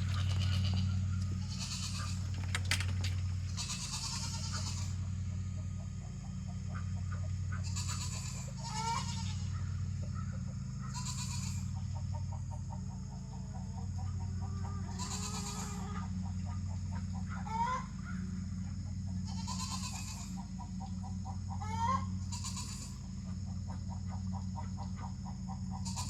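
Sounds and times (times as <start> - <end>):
farm animals calling: 0.0 - 26.0
steady low hum: 0.0 - 26.0.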